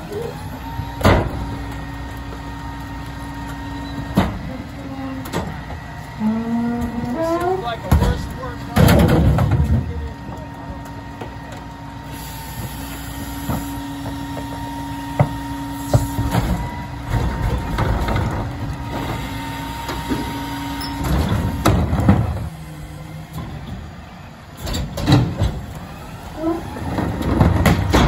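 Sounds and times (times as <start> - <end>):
clanks and thuds of carts: 0.0 - 11.8, 12.4 - 28.0
hydraulic whine of garbage truck: 0.0 - 28.0.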